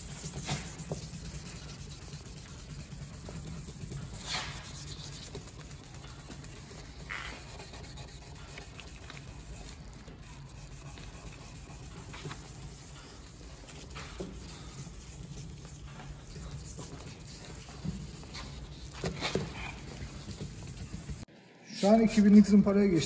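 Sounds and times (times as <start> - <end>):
sandpaper rubbing on plastic: 0.0 - 21.3
sandpaper scuffs: 0.0 - 22.0.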